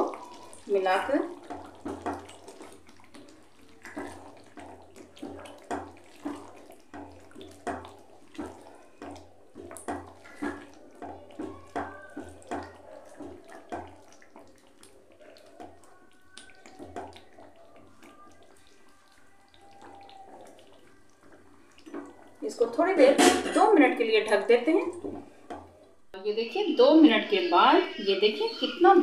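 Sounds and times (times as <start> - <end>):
spatula stirring thick gravy: 0.0 - 25.8.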